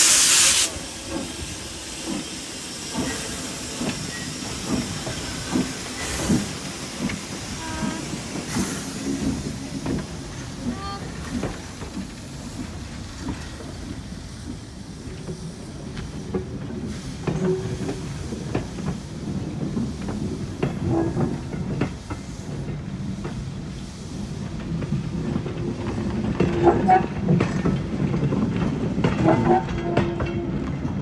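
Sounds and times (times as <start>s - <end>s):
steam hissing: 0.0s - 28.0s
train wheels clanking over rail joints: 1.0s - 31.0s.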